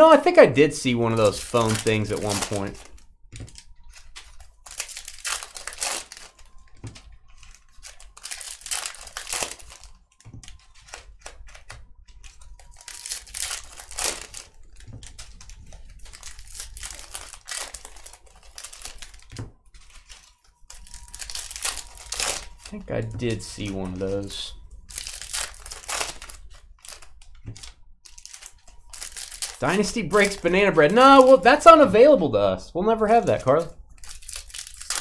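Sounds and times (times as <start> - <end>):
foil wrappers crinkling and tearing: 0.8 - 31.8, 33.2 - 35.0.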